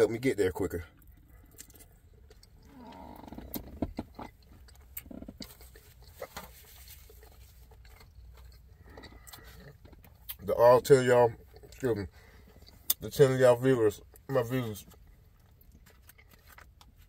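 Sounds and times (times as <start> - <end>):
person chewing food: 0.9 - 10.5, 11.4 - 13.0, 14.0 - 17.0.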